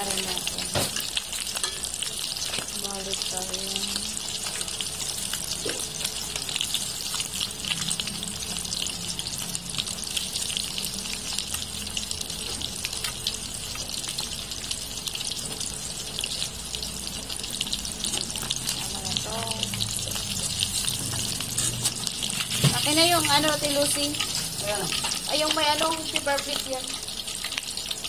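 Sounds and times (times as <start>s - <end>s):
fish deep-frying in hot oil: 0.0s - 28.0s.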